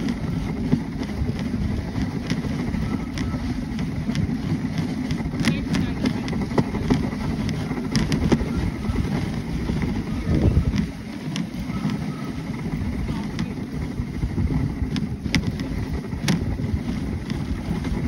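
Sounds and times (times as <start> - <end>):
sled clicks: 0.0 - 18.0
sled runners on snow: 0.0 - 18.0
wind on microphone: 0.0 - 18.0.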